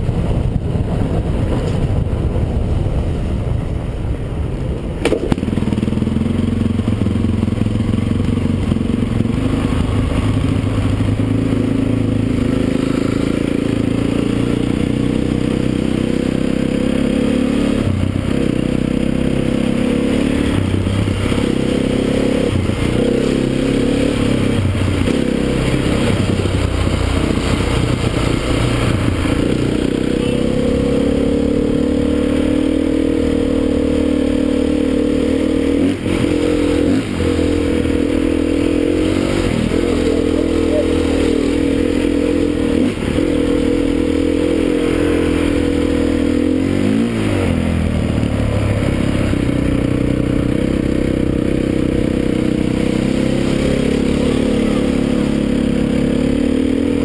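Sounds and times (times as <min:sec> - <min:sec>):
dirt bike engine revving: 0:05.3 - 0:57.0.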